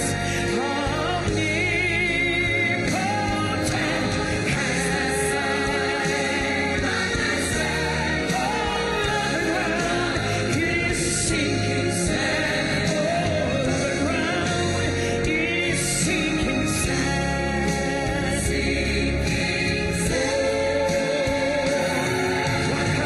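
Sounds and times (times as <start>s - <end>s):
gospel choir singing: 0.0s - 23.0s
instrumental accompaniment: 0.0s - 23.0s.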